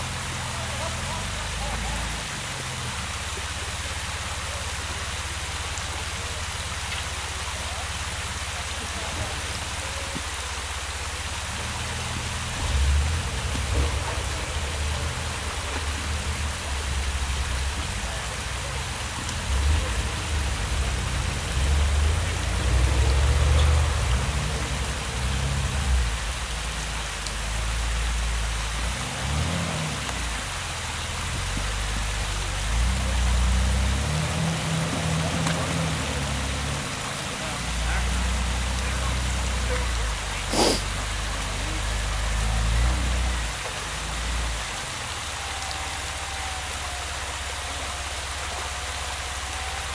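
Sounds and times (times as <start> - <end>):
vehicle engine low rumble: 0.0 - 49.9
waterfall rushing: 0.0 - 49.9.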